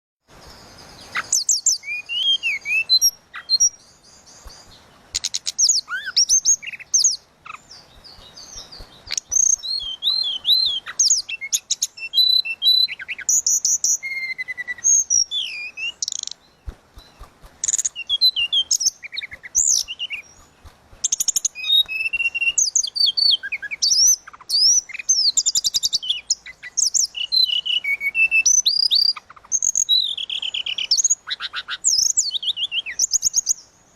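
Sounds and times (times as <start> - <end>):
songbird singing whistles: 0.4 - 33.7.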